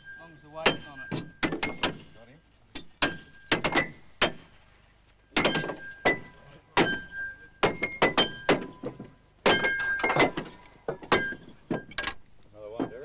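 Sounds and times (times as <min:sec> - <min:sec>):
hammers striking steel: 0:00.0 - 0:04.6, 0:05.3 - 0:13.0.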